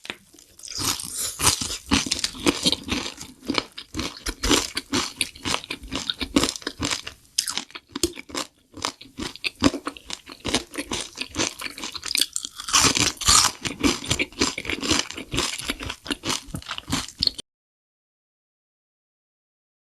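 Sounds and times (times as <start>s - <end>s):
crunchy chewing: 0.0s - 17.4s.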